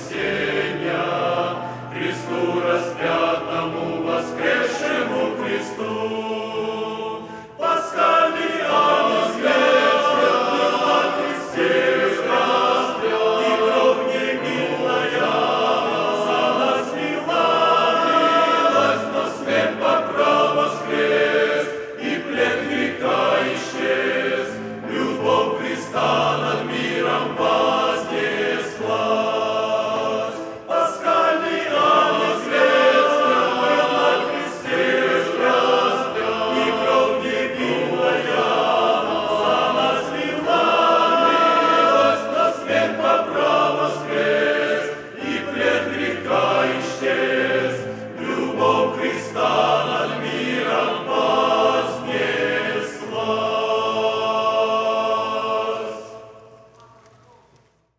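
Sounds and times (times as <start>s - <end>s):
men's choir singing a hymn: 0.0s - 56.7s.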